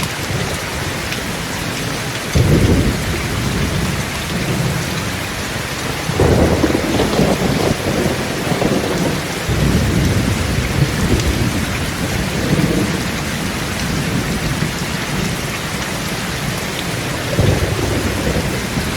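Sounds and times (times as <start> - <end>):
heavy rain falling: 0.0 - 18.9
thunder rumbling: 2.3 - 18.9.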